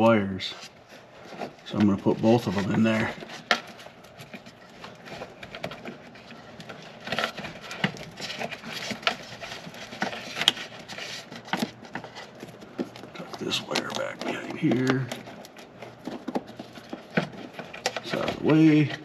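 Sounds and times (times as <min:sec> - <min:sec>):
rustling of wires in rubber hose: 0:00.0 - 0:19.0.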